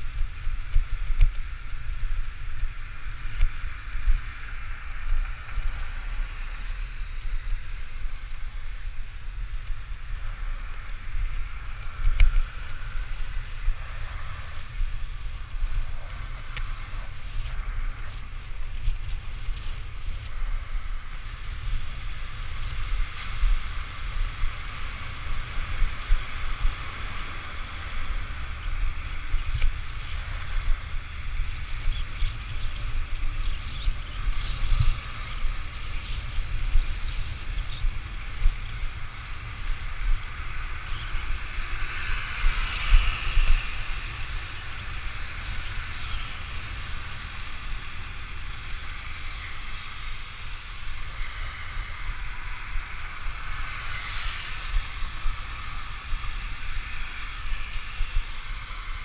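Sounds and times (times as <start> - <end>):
low rumble and road noise: 0.0 - 59.0
wind rushing over microphone: 0.0 - 59.0.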